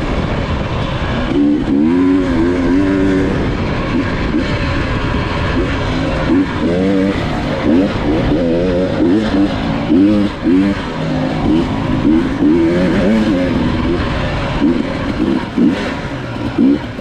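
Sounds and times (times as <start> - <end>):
dirt bike engine revving: 0.0 - 17.0
steady rushing noise: 0.0 - 17.0.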